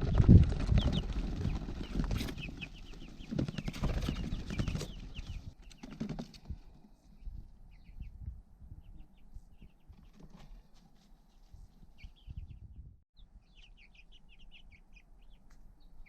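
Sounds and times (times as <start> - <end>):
chicks peeping: 0.1 - 10.6, 11.2 - 12.6, 13.2 - 16.0.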